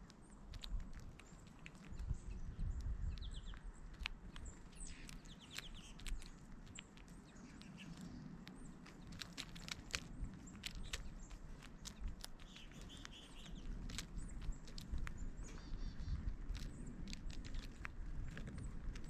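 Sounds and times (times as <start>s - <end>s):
sharp clicks and taps: 0.0s - 19.0s
small birds chirping: 0.0s - 19.0s.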